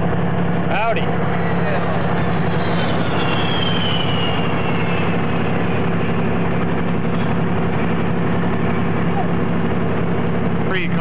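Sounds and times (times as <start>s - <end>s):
diesel engine droning: 0.0s - 11.0s
faint high whine: 0.0s - 11.0s.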